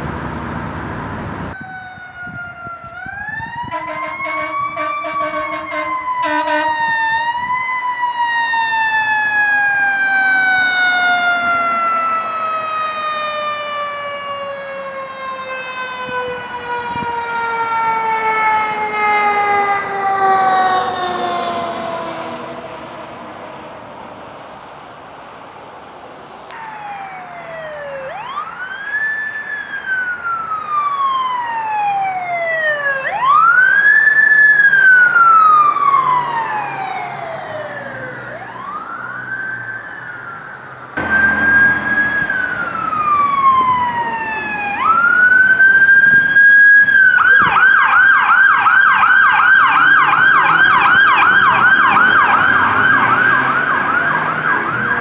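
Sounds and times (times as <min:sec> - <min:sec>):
emergency vehicle siren: 0:00.0 - 0:24.9, 0:26.5 - 0:55.0.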